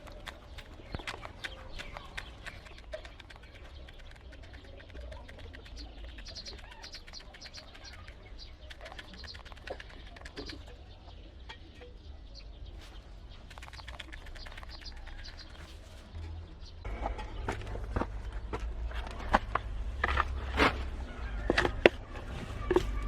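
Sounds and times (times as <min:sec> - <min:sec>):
small clicks and scratches: 0:00.0 - 0:10.8, 0:13.3 - 0:16.4, 0:17.5 - 0:23.0
chicks peeping: 0:00.0 - 0:23.0.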